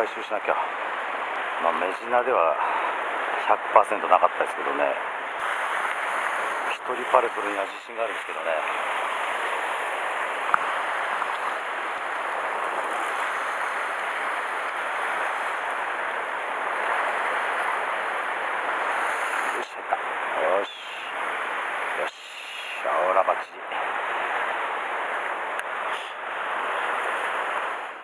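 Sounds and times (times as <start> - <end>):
sea surf on rocky shore: 0.0 - 28.0.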